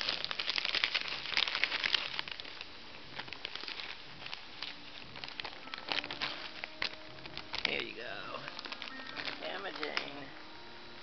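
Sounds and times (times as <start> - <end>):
plastic chip bag crinkling: 0.0 - 10.4.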